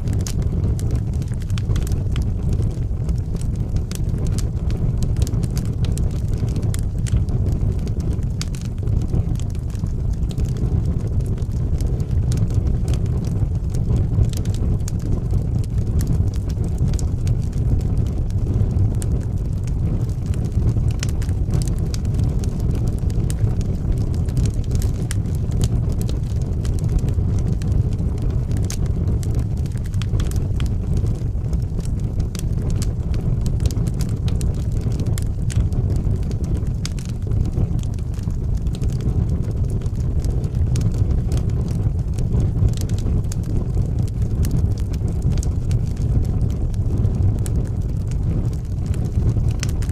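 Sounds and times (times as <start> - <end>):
fire roaring: 0.0 - 49.9
logs crackling and popping: 0.0 - 49.9.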